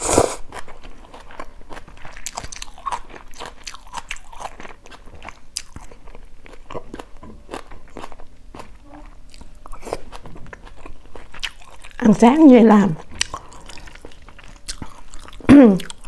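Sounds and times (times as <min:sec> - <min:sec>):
person chewing noodles: 0:00.0 - 0:12.0, 0:13.0 - 0:16.0.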